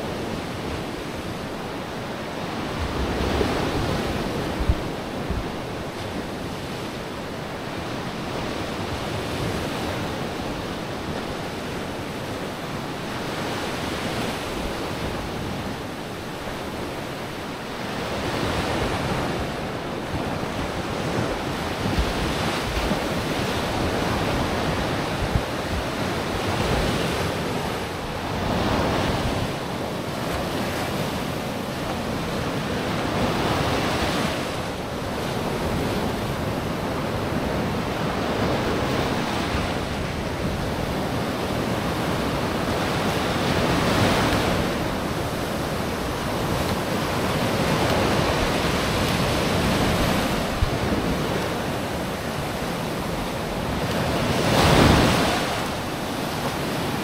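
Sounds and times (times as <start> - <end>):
waves breaking on beach: 0.0 - 57.0
wind rumbling on microphone: 0.0 - 57.0.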